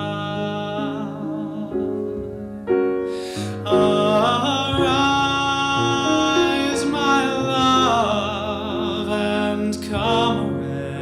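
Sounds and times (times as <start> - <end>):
man singing with vibrato: 0.0 - 2.4, 3.2 - 11.0
piano chords: 0.0 - 11.0.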